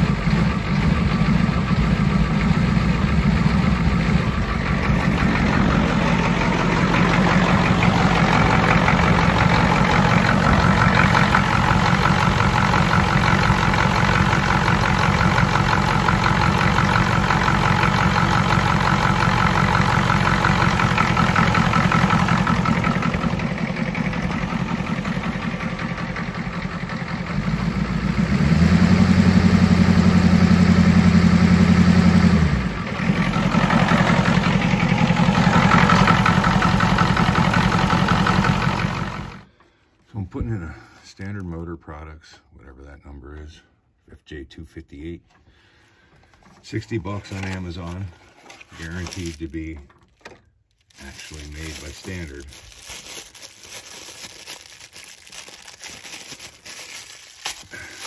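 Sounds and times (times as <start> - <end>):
diesel engine idling: 0.0 - 39.9, 50.8 - 58.0.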